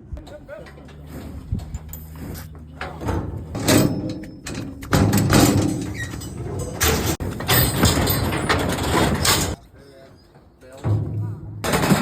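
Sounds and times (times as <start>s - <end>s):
metal gates rattling and banging: 0.2s - 9.6s, 10.6s - 12.0s.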